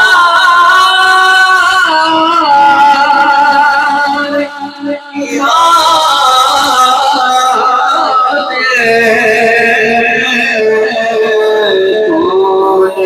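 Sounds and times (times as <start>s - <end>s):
man singing devotional poem: 0.0s - 13.0s.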